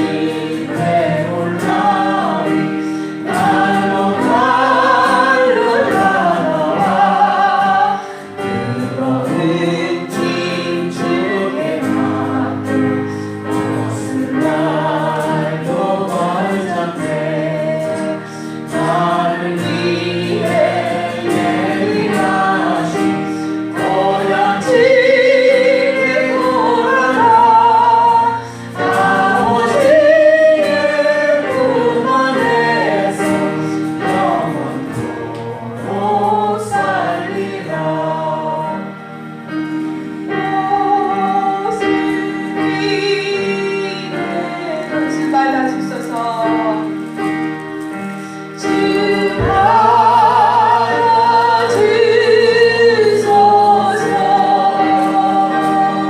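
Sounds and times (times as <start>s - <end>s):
group singing worship song: 0.0s - 56.0s
held accompaniment chords: 0.0s - 56.0s.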